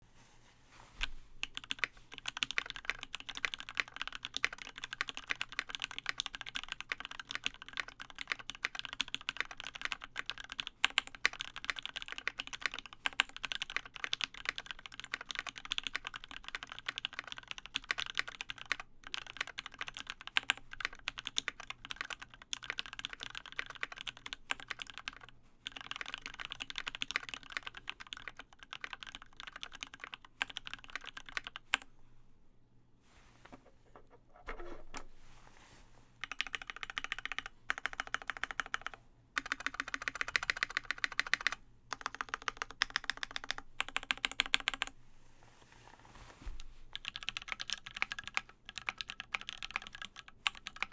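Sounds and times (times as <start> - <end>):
mechanical keyboard typing: 1.4 - 31.9, 36.2 - 44.9, 46.9 - 50.9.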